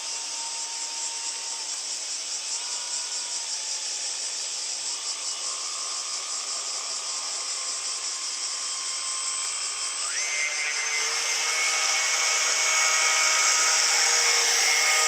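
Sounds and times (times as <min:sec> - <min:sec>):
thin motor whine: 0:00.0 - 0:15.0.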